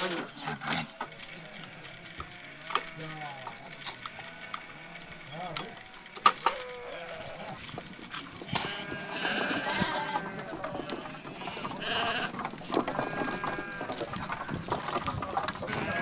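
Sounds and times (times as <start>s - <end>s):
sheep and goats bleating: 0.0s - 16.0s.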